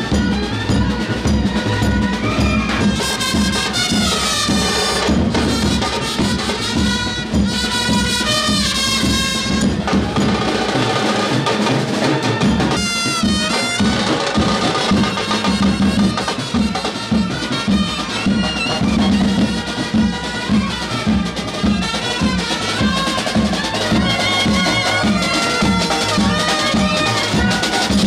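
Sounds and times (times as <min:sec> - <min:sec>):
lively music with percussion beat: 0:00.0 - 0:28.0.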